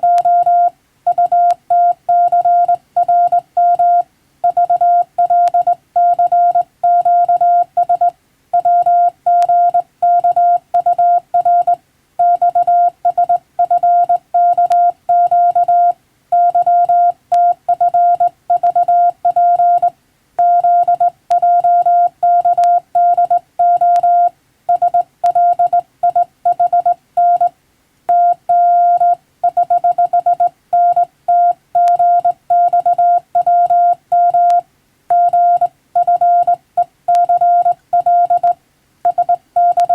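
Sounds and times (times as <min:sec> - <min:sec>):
morse code tone: 0:00.0 - 0:27.5, 0:28.1 - 0:39.9.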